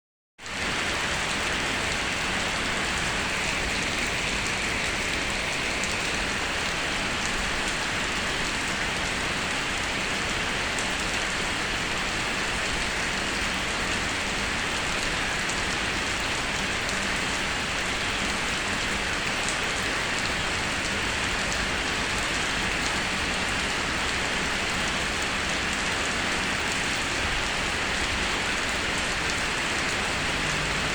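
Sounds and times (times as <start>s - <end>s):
rain falling steadily: 0.4s - 30.9s.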